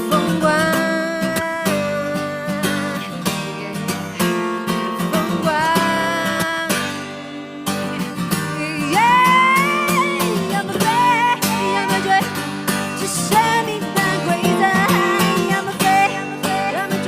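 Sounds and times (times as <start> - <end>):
acoustic guitar playing: 0.0 - 17.0
person singing: 0.0 - 17.0.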